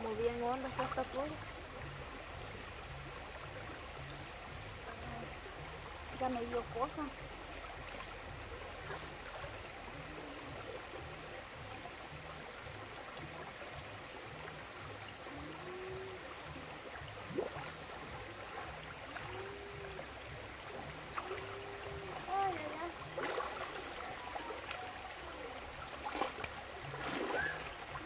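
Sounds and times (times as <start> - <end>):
water running over rocks: 0.0 - 28.0.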